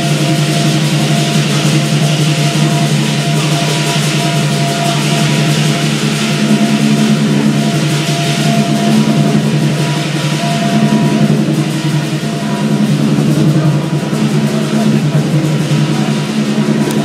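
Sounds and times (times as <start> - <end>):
big drum beating rapidly: 0.0 - 17.0
cymbals clashing: 0.0 - 17.0
gong ringing: 0.0 - 17.0.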